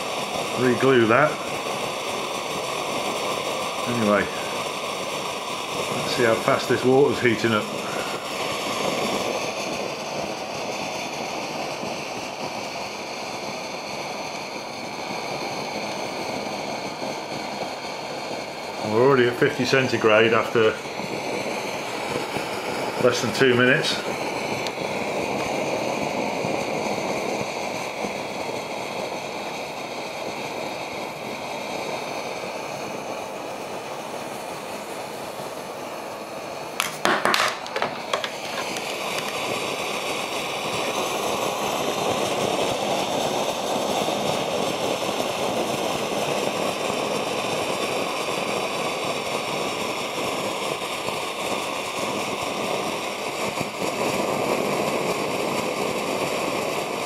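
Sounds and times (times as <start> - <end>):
stove burning with roar: 0.0 - 57.0.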